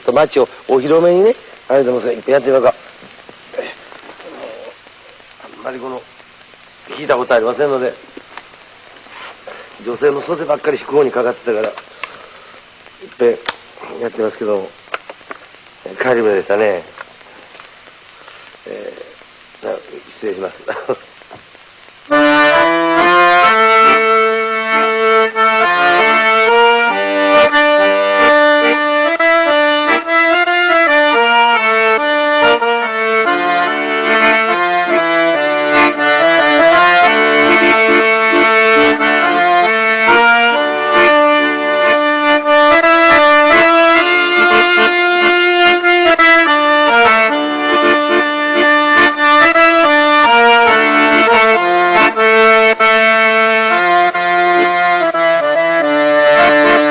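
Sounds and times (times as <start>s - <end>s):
accordion playing melody: 0.0s - 15.0s, 15.8s - 16.9s, 22.0s - 56.9s.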